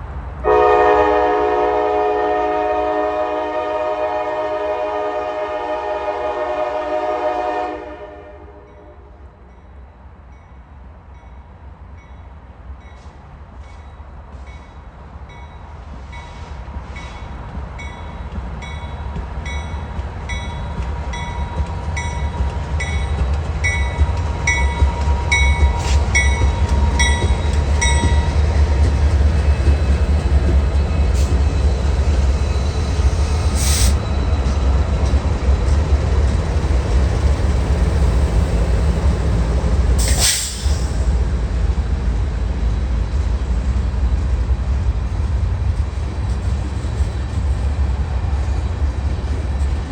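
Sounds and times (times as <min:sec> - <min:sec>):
diesel locomotive engines rumbling: 0:00.0 - 0:49.9.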